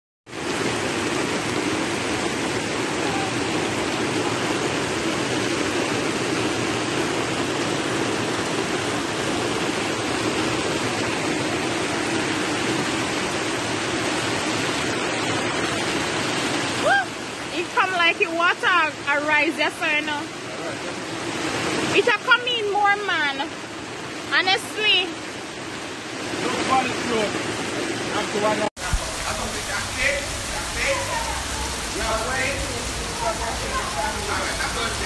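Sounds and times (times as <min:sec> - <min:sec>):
floodwater rushing: 0:00.3 - 0:35.0.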